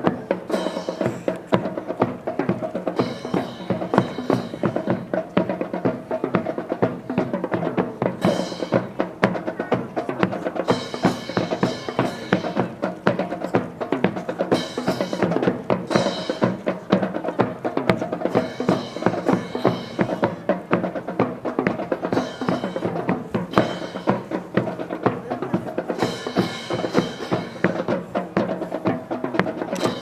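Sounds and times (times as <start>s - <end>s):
drum kit beat: 0.0s - 30.0s.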